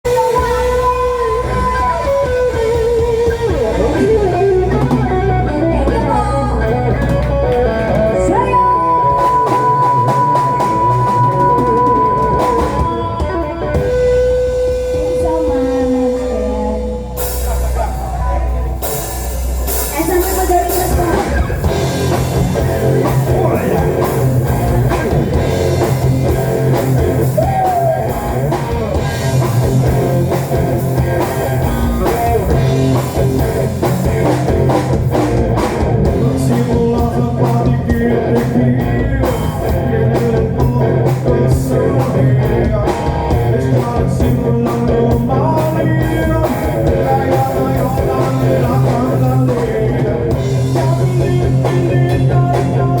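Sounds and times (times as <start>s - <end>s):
drum kit: 0.0s - 53.0s
electric guitar: 0.0s - 53.0s
rock song with singing: 0.0s - 53.0s.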